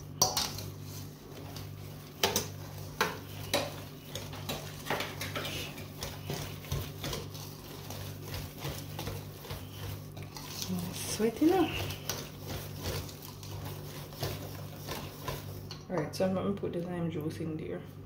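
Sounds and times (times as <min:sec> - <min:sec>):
whisk scraping a metal bowl: 0:00.0 - 0:16.4
steady low hum: 0:00.0 - 0:18.0.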